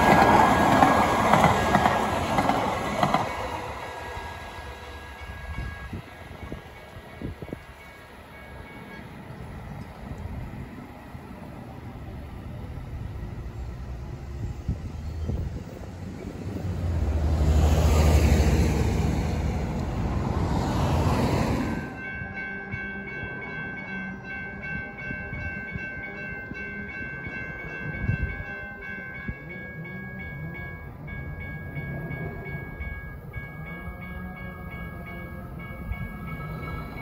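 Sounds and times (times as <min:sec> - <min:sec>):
light rail train rumbling: 0:00.0 - 0:37.0.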